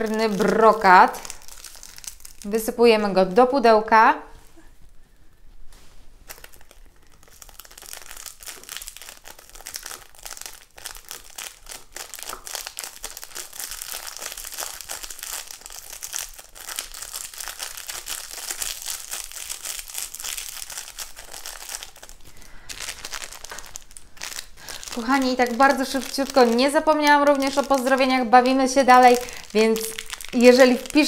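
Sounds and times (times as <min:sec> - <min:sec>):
plastic sachet crinkling: 0:00.0 - 0:03.4, 0:06.2 - 0:31.0.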